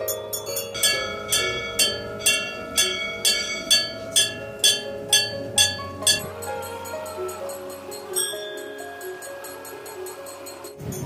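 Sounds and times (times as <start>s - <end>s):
bell struck in steady rhythm: 0.0s - 11.0s
soft held notes: 0.0s - 11.0s.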